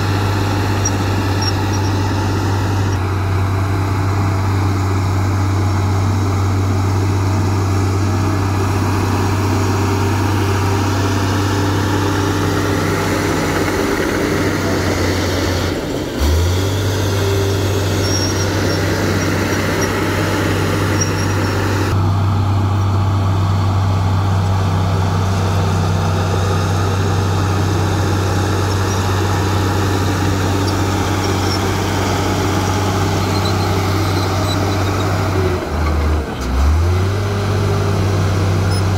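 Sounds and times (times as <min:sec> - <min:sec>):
bulldozer diesel engine drone: 0:00.0 - 0:38.9.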